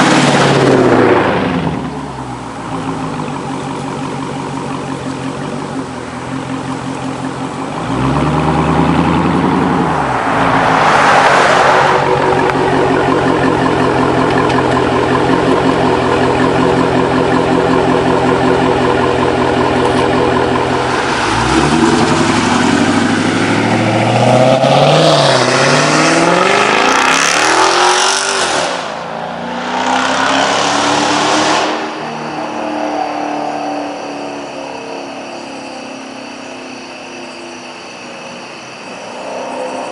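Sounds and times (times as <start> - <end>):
car engine exhaust revving: 0.0 - 39.9.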